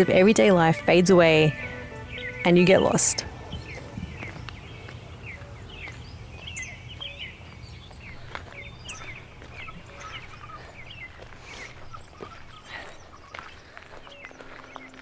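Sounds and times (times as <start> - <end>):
low outdoor background rumble: 0.0 - 15.0
small birds chirping and singing: 0.0 - 15.0.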